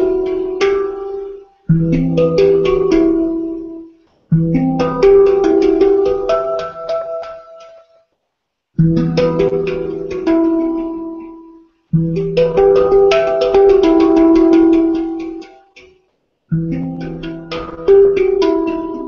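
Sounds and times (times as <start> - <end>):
handpan ringing notes: 0.0 - 8.0, 8.8 - 19.0.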